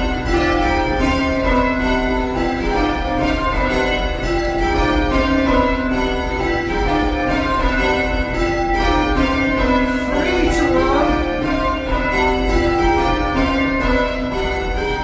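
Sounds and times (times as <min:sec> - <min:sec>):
church bells change ringing: 0:00.0 - 0:15.0.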